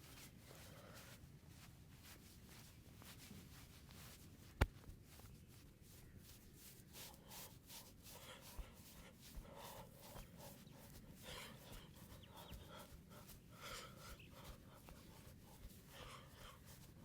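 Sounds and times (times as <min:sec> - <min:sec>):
hands rubbing during massage: 0:00.0 - 0:17.0.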